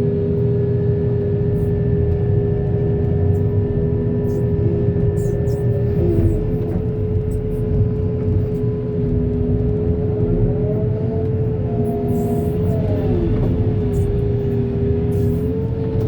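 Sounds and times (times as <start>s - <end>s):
diesel engine rumbling: 0.0s - 16.0s
steady whine: 0.6s - 16.0s.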